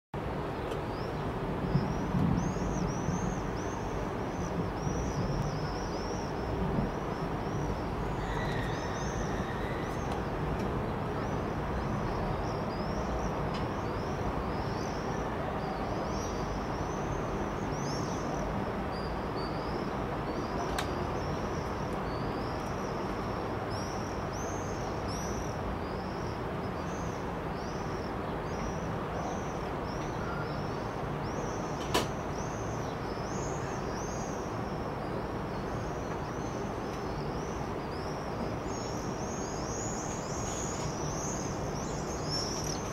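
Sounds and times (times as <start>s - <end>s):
birds chirping: 0.5s - 42.9s.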